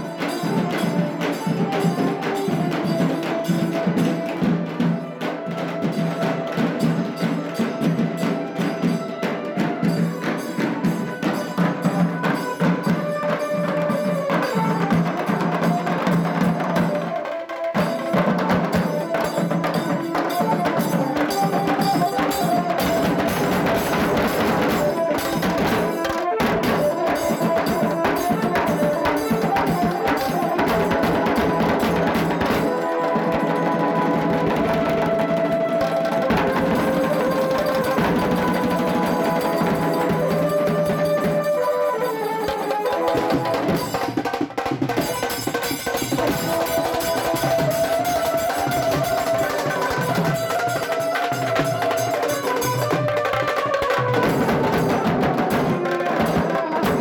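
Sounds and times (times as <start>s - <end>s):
drums beating fast rhythm: 0.0s - 57.0s.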